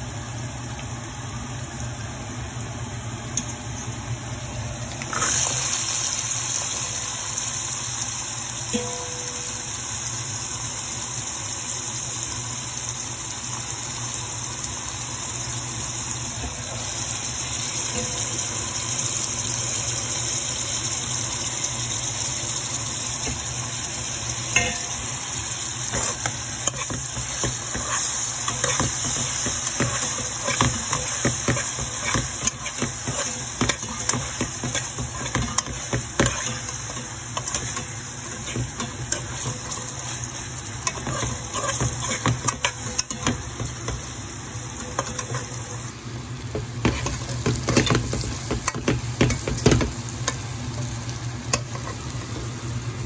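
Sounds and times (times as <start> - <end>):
beans sizzling in oil: 0.0 - 53.0.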